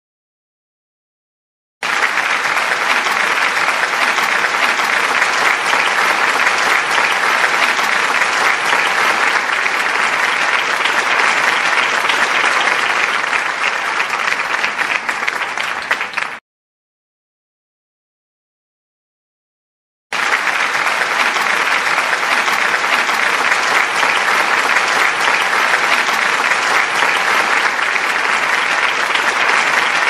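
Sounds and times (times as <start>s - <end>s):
applause: 1.8s - 16.4s, 20.1s - 30.0s.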